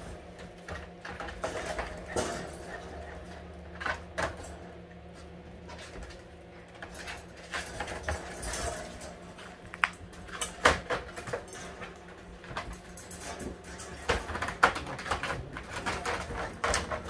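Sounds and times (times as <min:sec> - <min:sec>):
steady low hum: 0:00.0 - 0:17.0
paws clicking on tile floor: 0:00.4 - 0:17.0.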